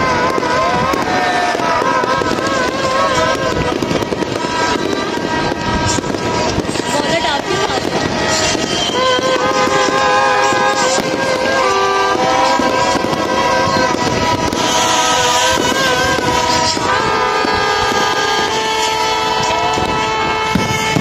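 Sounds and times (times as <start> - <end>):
bright hissing burst: 0.0 - 21.0
fireworks crackling and popping: 0.0 - 21.0
many horns blowing: 0.0 - 21.0.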